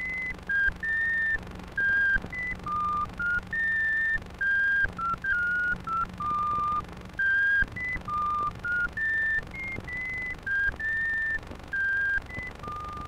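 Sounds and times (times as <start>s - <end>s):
high whistle-like tones: 0.0s - 13.0s.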